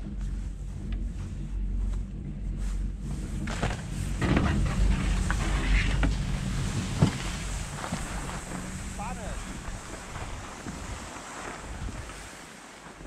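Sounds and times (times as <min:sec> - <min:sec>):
steady low rumble: 0:00.0 - 0:13.0
skis scraping on packed snow: 0:00.1 - 0:13.0.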